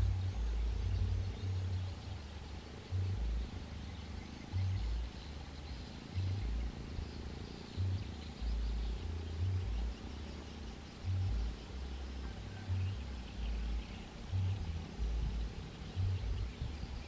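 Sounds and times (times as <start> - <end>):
distant birds chirping: 0.0 - 17.0
low rumble: 0.0 - 17.0.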